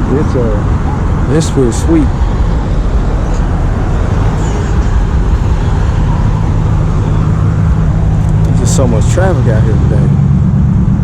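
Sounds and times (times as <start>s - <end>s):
engine low hum: 0.0s - 11.0s
road traffic rumbling: 0.0s - 11.0s.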